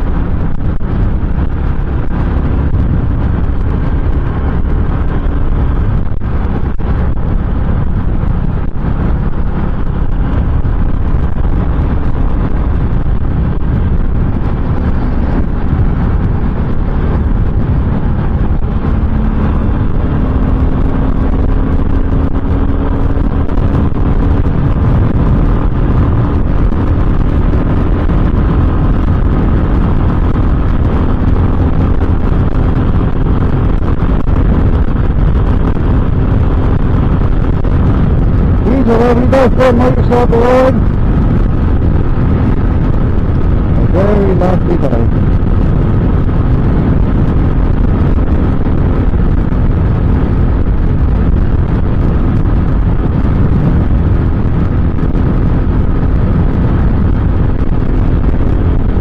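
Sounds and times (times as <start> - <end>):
motorcycle engine cruising: 0.0 - 59.0
wind rumble on microphone: 0.0 - 59.0.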